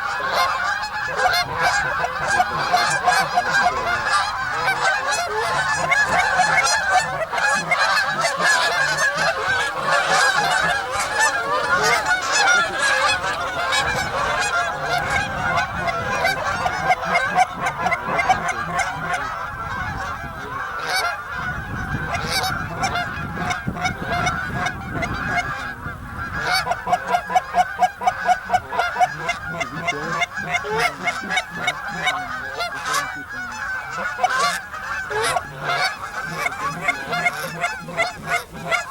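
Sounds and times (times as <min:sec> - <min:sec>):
flock of geese honking: 0:00.0 - 0:38.9.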